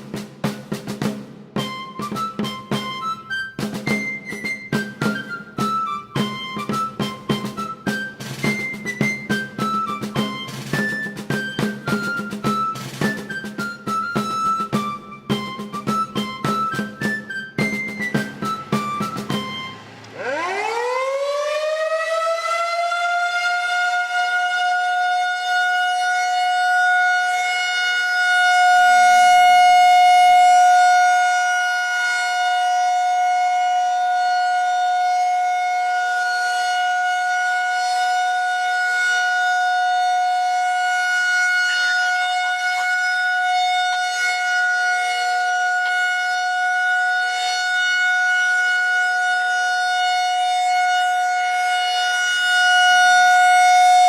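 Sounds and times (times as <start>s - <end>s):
outdoor warning siren: 1.6s - 54.0s.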